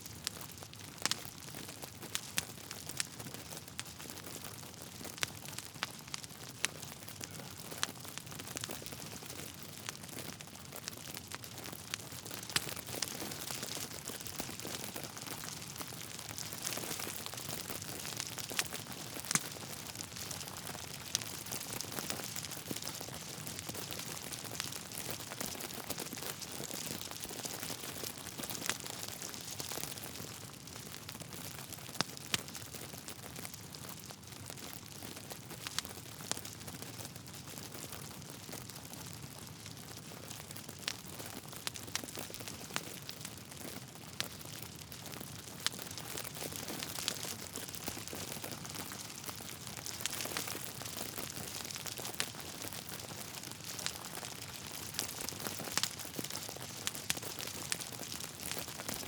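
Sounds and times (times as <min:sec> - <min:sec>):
wood fire crackling: 0:00.0 - 0:59.0
sharp pops from burning logs: 0:00.2 - 0:03.6, 0:04.2 - 0:30.4, 0:40.3 - 0:59.0.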